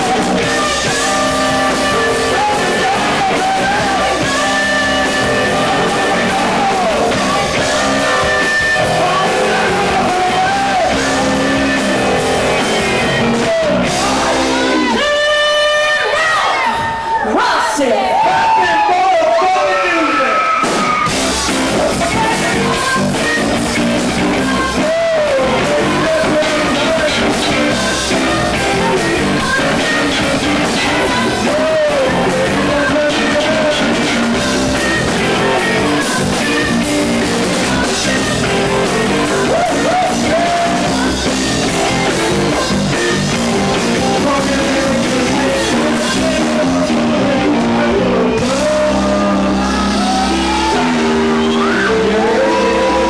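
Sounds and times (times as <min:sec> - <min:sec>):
person singing: 0:00.0 - 0:16.8, 0:21.0 - 0:53.0
drum kit: 0:00.0 - 0:17.0, 0:20.0 - 0:53.0
electric guitar: 0:00.0 - 0:17.2, 0:20.0 - 0:53.0
bass guitar: 0:00.0 - 0:17.3, 0:18.0 - 0:53.0.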